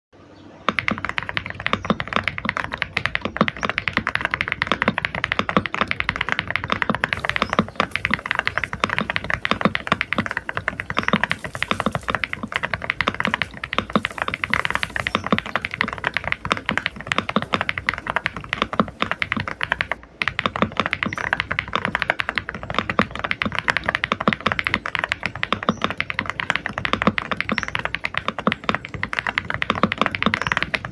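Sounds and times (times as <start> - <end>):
fast typing on mechanical keyboard: 0.7 - 30.9.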